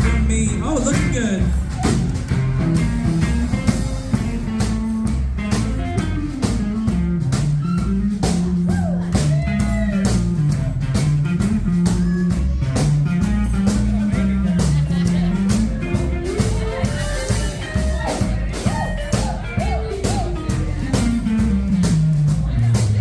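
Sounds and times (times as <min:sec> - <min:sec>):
lead guitar with bent notes: 0:00.0 - 0:23.0
steady drum beat: 0:00.0 - 0:23.0
walking bass line: 0:00.0 - 0:23.0.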